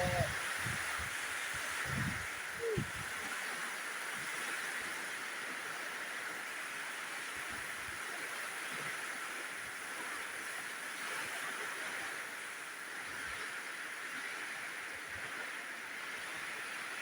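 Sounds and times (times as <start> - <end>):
rain with strong wind: 0.0 - 17.0.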